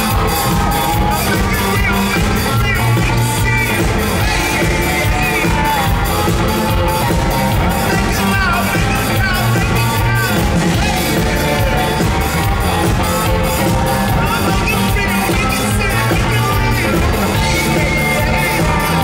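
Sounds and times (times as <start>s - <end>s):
driving drum beat: 0.0s - 19.0s
live rock band playing loudly: 0.0s - 19.0s.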